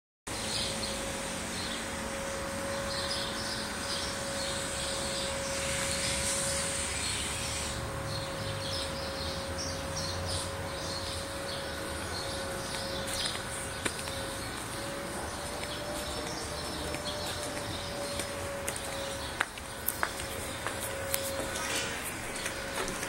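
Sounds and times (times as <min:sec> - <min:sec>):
birds chirping: 0:00.3 - 0:23.0.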